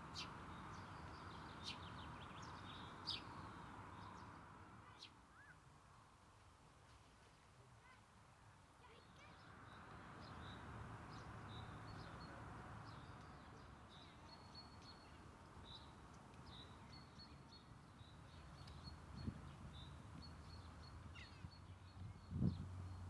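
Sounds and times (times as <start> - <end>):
small birds chirping: 0.1 - 5.6, 8.8 - 23.0.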